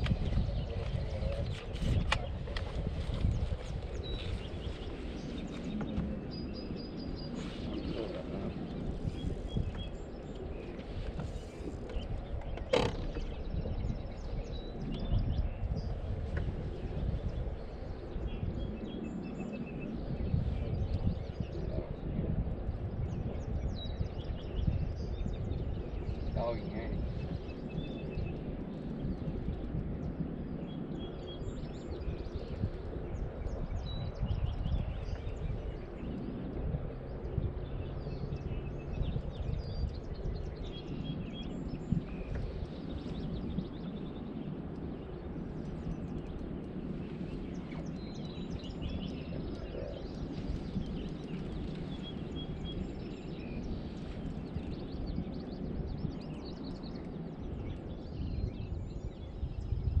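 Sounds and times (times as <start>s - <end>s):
songbirds chirping: 0.0s - 60.0s
steady low rumble: 0.0s - 60.0s.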